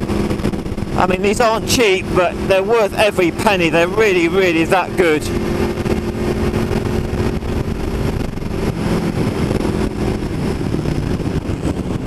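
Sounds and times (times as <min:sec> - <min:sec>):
motorcycle engine running: 0:00.0 - 0:12.0
wind rush over microphone: 0:00.0 - 0:12.0.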